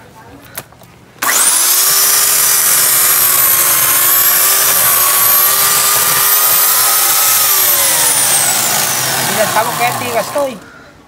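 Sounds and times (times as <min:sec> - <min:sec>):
electric chainsaw cutting wood: 0:01.2 - 0:10.6.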